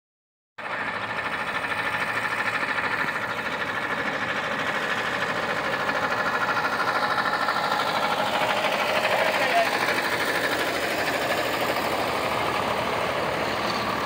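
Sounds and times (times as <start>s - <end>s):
old tractor engines running: 0.6s - 14.0s.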